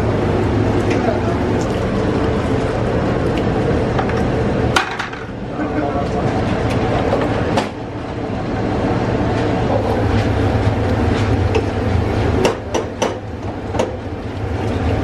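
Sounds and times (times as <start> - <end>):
low kitchen rumble: 0.0 - 15.0.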